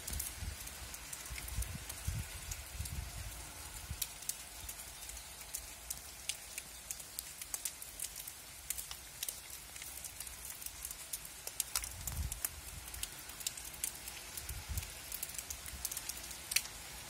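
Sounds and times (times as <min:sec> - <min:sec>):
rain falling on leaves: 0:00.0 - 0:17.0.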